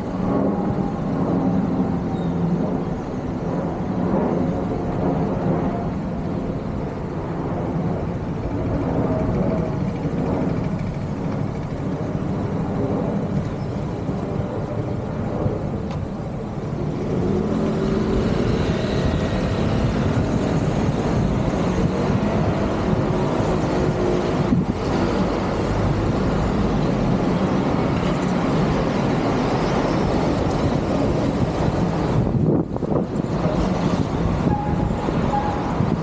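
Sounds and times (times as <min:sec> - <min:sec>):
road traffic passing: 0:00.0 - 0:36.0.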